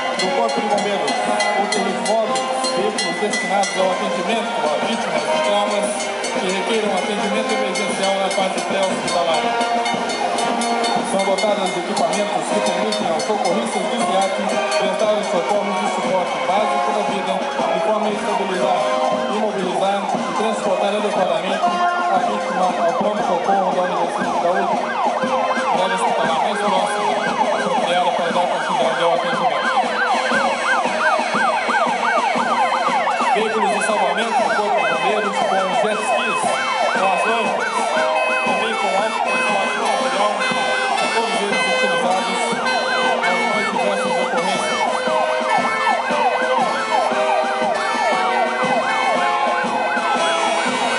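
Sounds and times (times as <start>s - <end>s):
two-tone high-low siren: 0.0s - 16.7s, 17.3s - 50.9s
yelp sirens: 0.0s - 50.9s.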